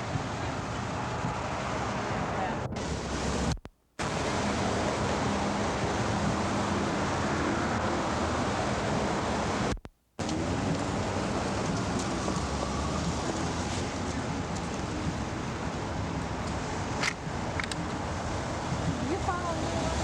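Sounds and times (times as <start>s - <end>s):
busy street noise: 0.0s - 20.0s
wind on microphone: 0.0s - 20.0s.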